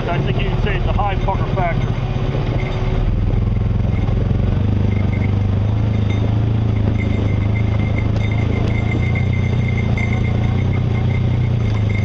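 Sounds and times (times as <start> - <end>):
clatter from rough ground: 0.0 - 12.0
vehicle engine droning: 0.0 - 12.0.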